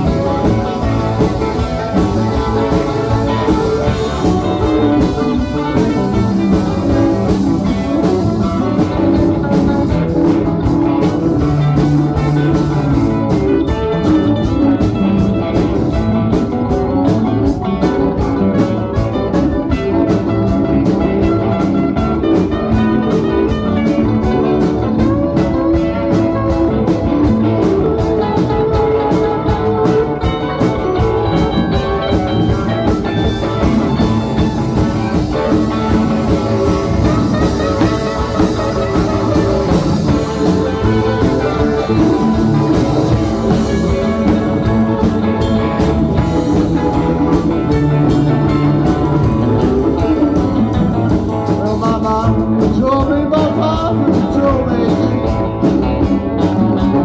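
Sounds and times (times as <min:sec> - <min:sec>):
blues-rock band playing: 0:00.0 - 0:57.0.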